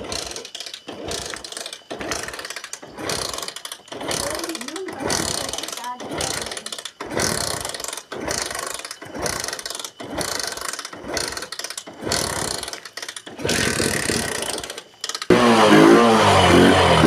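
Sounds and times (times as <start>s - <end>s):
hand tool rasping strokes: 0.0s - 17.0s.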